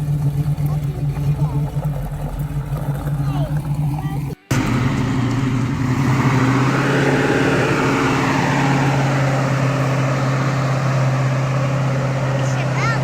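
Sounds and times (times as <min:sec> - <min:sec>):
car engine running steadily: 0:00.0 - 0:13.0
road and wind noise: 0:00.0 - 0:13.0.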